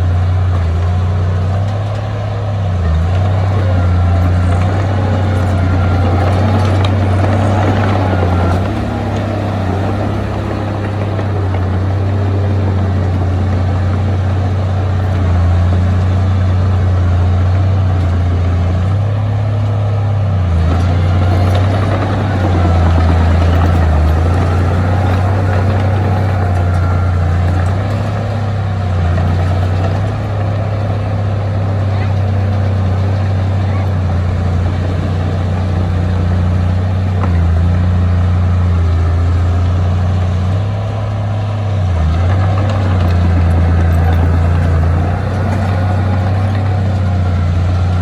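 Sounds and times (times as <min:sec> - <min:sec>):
heavy diesel engine droning: 0:00.0 - 0:48.0.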